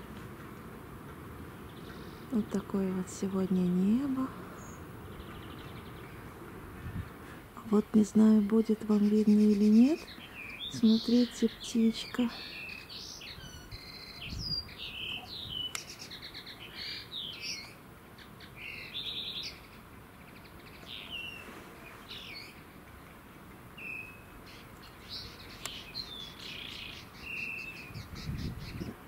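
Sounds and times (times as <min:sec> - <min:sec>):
songbirds chirping and singing: 0:01.5 - 0:23.1, 0:23.7 - 0:29.0.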